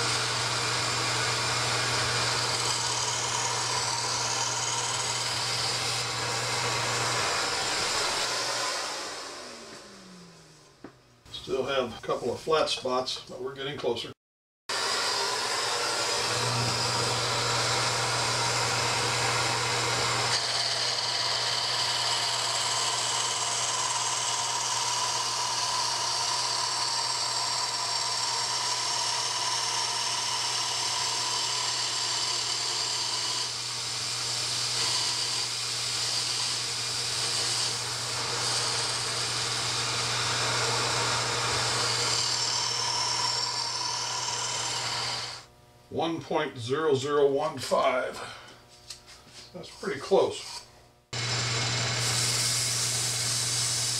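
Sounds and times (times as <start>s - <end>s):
lathe turning wood: 0.0s - 10.6s, 14.7s - 46.1s, 49.5s - 53.9s
vacuum running: 0.0s - 11.7s, 14.7s - 45.6s, 51.2s - 53.9s.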